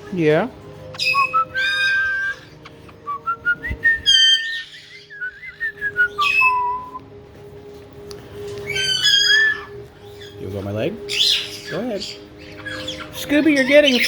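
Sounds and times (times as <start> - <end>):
parrots whistling and calling: 0.0 - 7.1, 8.2 - 14.0.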